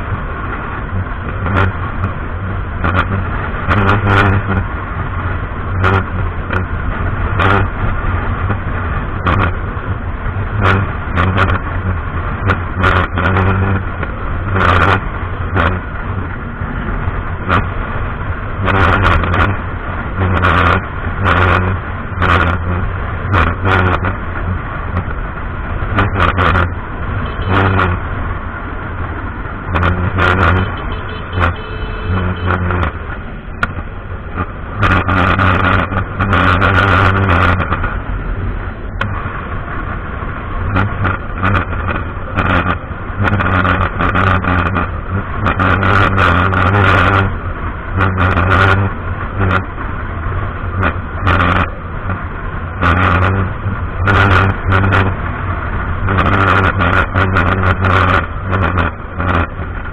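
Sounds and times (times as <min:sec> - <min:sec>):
short knocks and buffets: 0:00.0 - 0:04.8, 0:05.6 - 0:17.8, 0:18.5 - 0:28.1, 0:28.7 - 0:49.7, 0:50.7 - 0:55.3, 0:55.9 - 0:59.9
motorcycle engine drone: 0:00.0 - 0:59.9.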